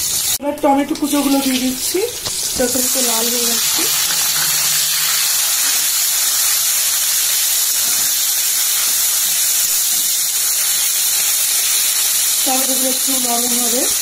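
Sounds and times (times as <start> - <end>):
tomatoes sizzling in oil: 0.0 - 14.0.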